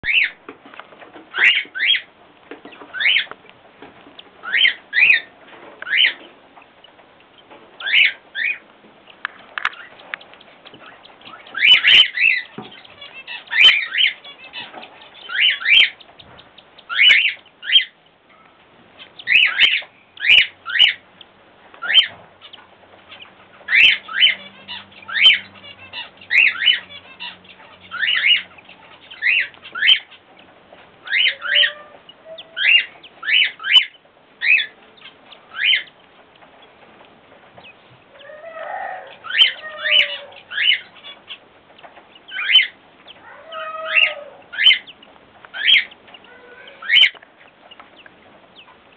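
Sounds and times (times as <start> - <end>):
chicks begging calls: 0.0 - 48.9.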